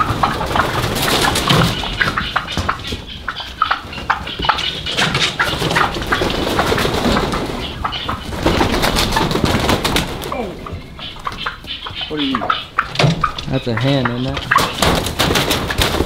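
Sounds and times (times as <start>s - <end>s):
turkeys calling: 0.0s - 16.0s
wings flapping: 0.0s - 16.0s.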